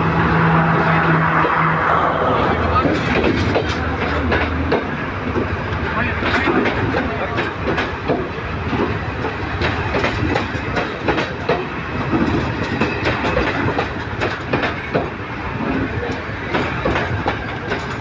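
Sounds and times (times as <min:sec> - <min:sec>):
train wheels rumbling: 0:00.0 - 0:18.0
wheels clacking over rail joints: 0:00.1 - 0:18.0.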